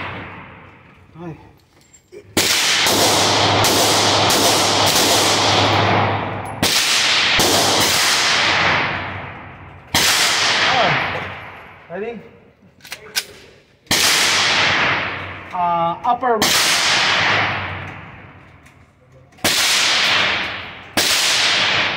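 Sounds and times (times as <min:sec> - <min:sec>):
pistol shots echoing indoors: 0:00.0 - 0:01.0, 0:02.4 - 0:11.9, 0:13.0 - 0:15.5, 0:16.3 - 0:18.7, 0:19.3 - 0:21.9.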